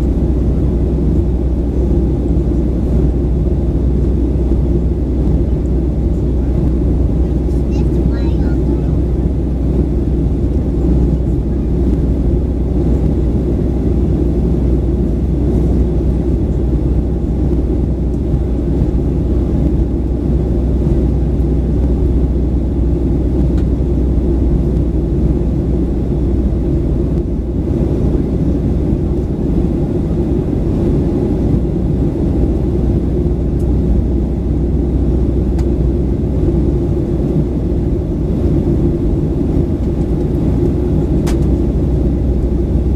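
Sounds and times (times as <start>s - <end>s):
airflow noise: 0.0s - 42.9s
airplane cabin drone: 0.0s - 42.9s.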